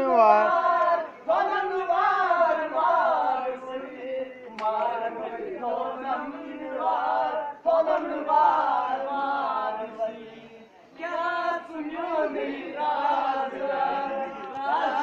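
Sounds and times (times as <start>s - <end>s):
men singing unaccompanied: 0.0s - 15.0s.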